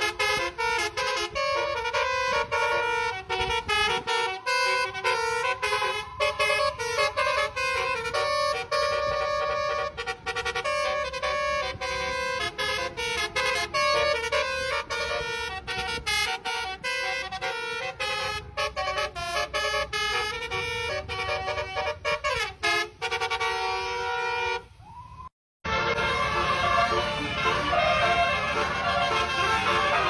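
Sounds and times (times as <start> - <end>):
bus horn playing melody: 0.0 - 24.8, 25.6 - 30.0.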